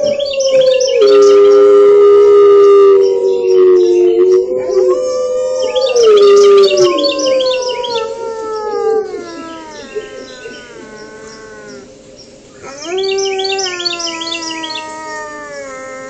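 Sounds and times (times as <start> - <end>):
wolves howling: 0.0 - 12.0, 12.6 - 16.0.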